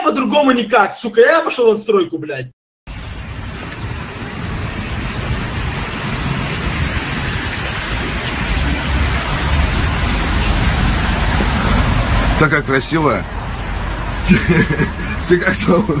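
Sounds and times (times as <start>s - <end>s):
rushing street noise: 2.9s - 16.0s.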